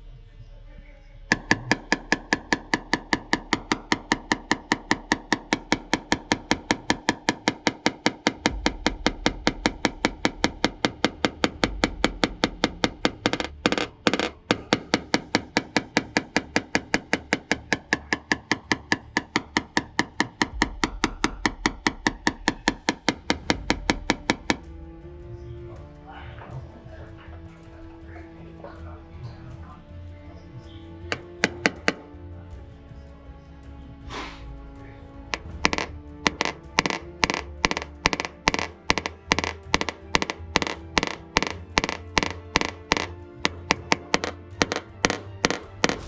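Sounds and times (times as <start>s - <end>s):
rapid light metal tapping: 1.3s - 46.0s.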